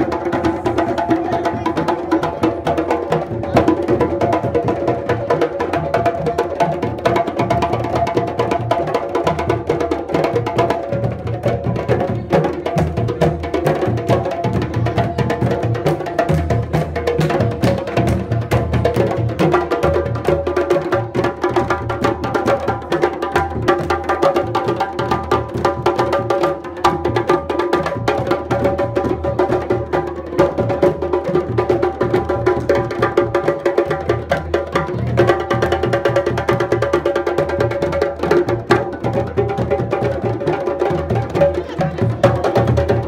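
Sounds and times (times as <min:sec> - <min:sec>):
djembe drums playing: 0:00.0 - 0:43.0.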